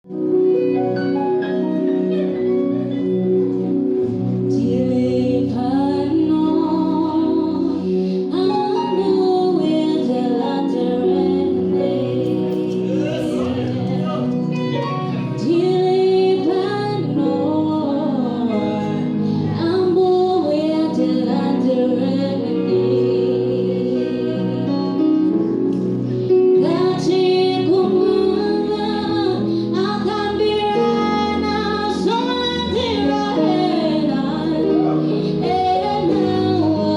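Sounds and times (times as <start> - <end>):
instrumental accompaniment: 0.0 - 36.9
woman singing: 4.4 - 25.5, 26.4 - 36.9.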